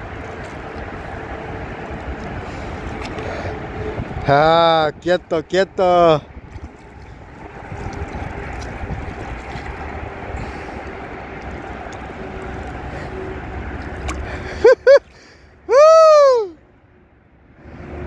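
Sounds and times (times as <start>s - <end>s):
water splashing and churning: 0.0s - 16.5s.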